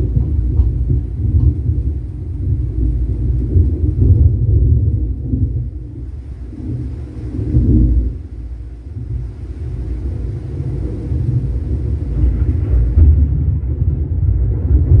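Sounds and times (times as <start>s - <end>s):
deep rolling rumble: 0.0s - 15.0s.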